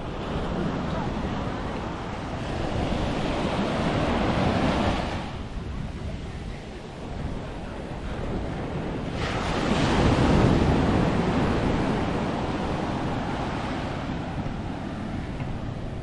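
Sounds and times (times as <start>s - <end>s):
wave breaking and washing: 0.0s - 16.0s
wind noise on microphone: 0.0s - 16.0s.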